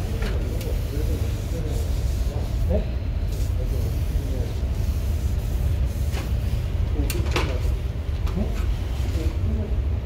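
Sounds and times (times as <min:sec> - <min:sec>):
workshop background rumble: 0:00.0 - 0:10.0.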